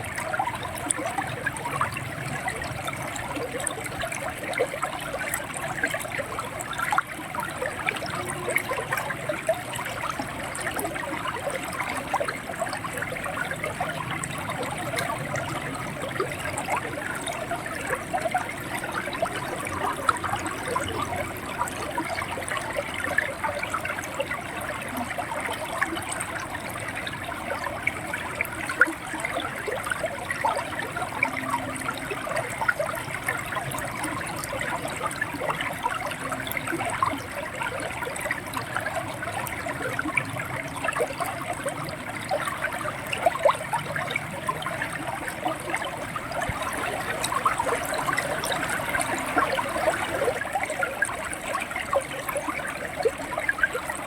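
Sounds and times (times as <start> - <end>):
river water gurgling over rocks: 0.0 - 54.0.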